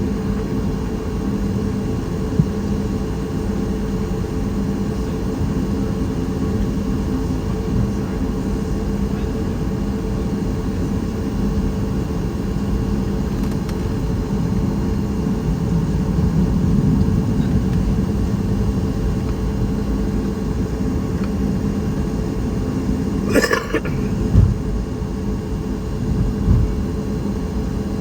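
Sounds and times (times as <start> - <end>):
airliner cabin rumble: 0.0 - 28.0
faint steady hum: 0.0 - 28.0.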